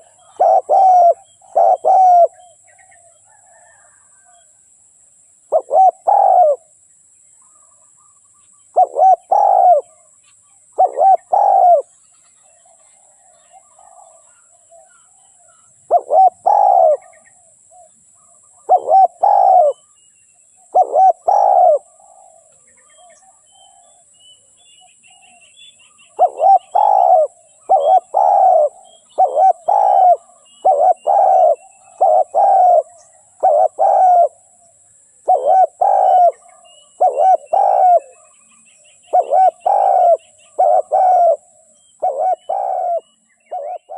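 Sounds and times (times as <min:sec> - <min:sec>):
dove cooing: 0:00.0 - 0:04.4, 0:05.5 - 0:06.7, 0:08.7 - 0:10.1, 0:10.8 - 0:11.9, 0:12.6 - 0:19.9, 0:20.7 - 0:24.0, 0:26.1 - 0:38.3, 0:39.0 - 0:43.9
faint twittering of small birds: 0:00.0 - 0:43.9.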